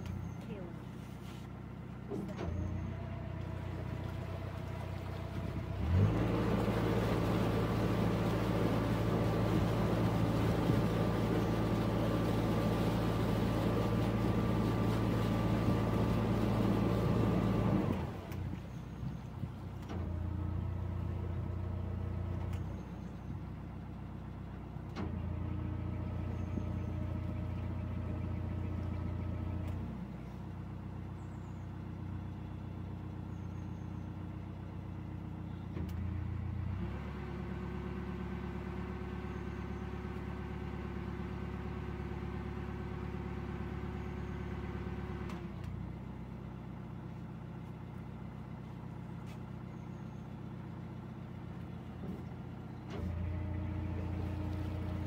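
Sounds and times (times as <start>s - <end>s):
diesel boat engine running: 0.0s - 55.0s.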